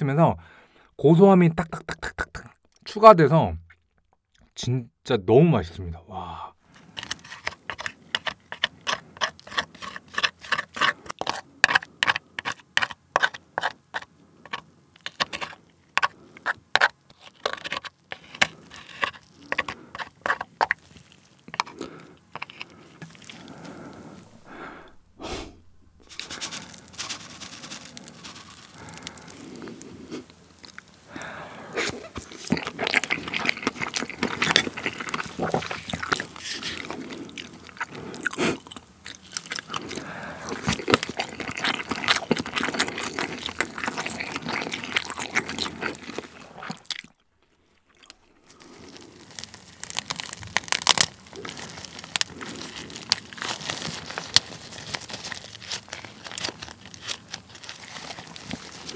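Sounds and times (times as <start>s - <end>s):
chewing with wet crunches: 6.8s - 25.1s, 25.7s - 58.9s.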